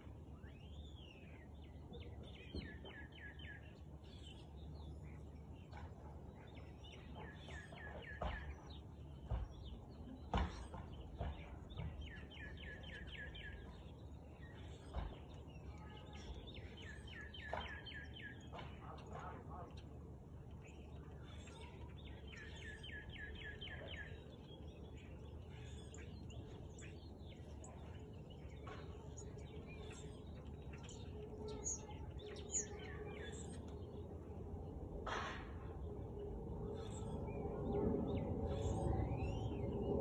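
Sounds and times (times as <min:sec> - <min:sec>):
faint background hum: 0:00.0 - 0:40.0.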